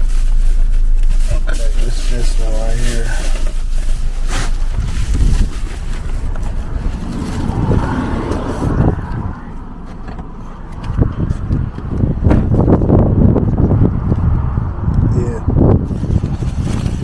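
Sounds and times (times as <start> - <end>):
phone handling rustle and rumble: 0.0 - 14.2, 15.8 - 17.0.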